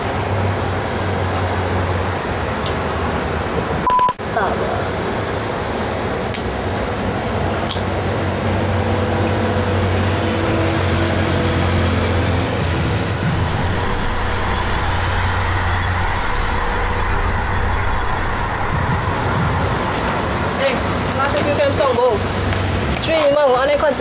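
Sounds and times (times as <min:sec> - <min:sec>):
low engine drone: 0:00.0 - 0:22.9
road and traffic noise: 0:00.0 - 0:24.0.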